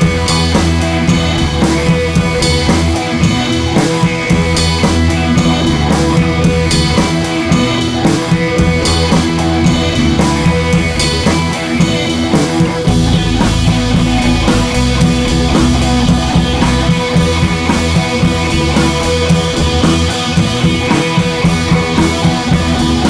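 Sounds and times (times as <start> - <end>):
rock music with drum beat: 0.0 - 23.0.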